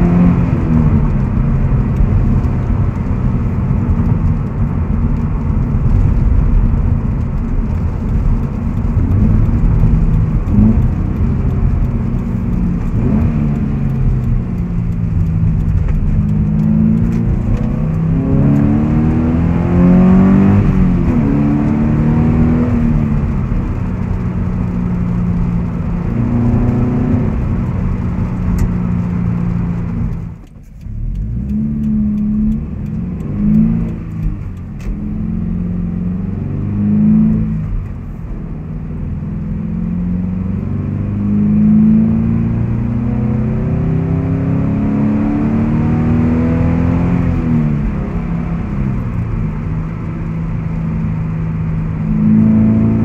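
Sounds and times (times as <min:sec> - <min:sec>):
car engine revving while driving: 0:00.0 - 0:53.0.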